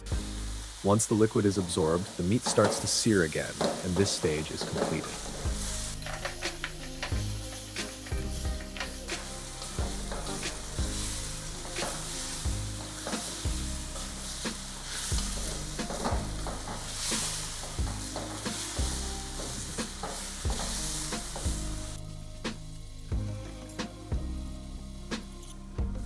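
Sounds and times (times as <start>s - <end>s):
meat sizzling in a pot: 0.0s - 25.6s
utensil knocking and scraping pot: 1.0s - 22.7s.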